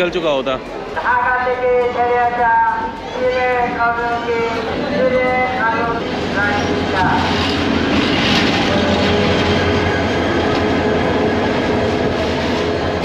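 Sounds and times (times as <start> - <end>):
train rumbling along platform: 0.0 - 13.0.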